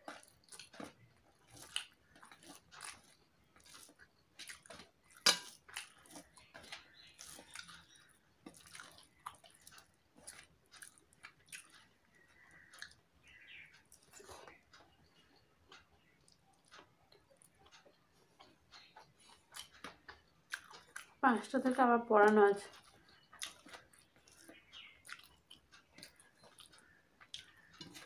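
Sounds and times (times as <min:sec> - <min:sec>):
wet chewing and mouth smacks: 0:00.0 - 0:21.2, 0:22.7 - 0:28.0
fingers mixing food on steel plate: 0:00.0 - 0:28.0.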